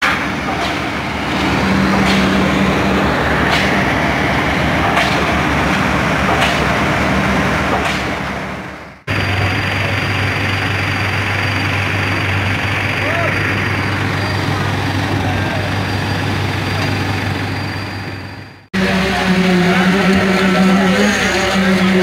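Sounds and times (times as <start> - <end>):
diesel concrete pump running: 0.0 - 22.0
low engine hum: 0.0 - 22.0.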